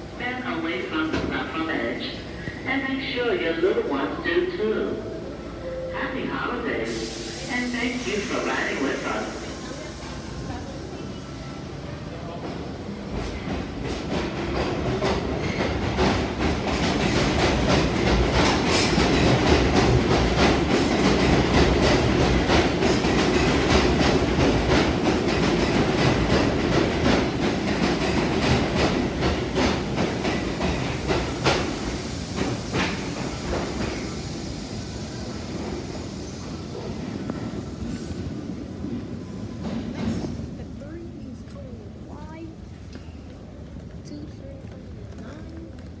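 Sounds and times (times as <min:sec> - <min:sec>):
subway train passing: 0:00.0 - 0:46.0.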